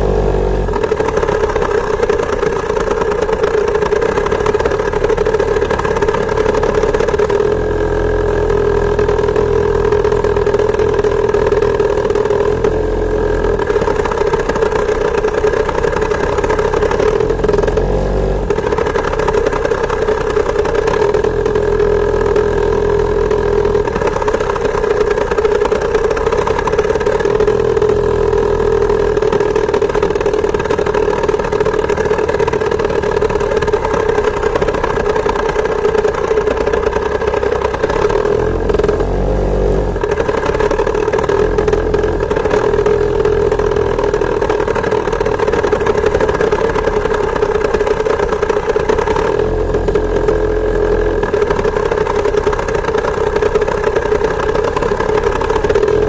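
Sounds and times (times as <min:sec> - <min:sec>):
two-stroke moped engine running: 0:00.0 - 0:56.0.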